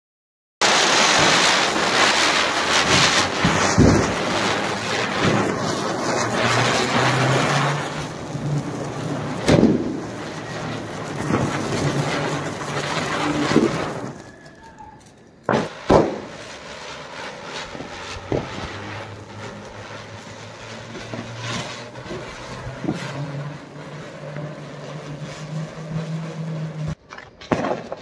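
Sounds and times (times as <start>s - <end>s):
firecracker bangs: 0.6s - 28.0s.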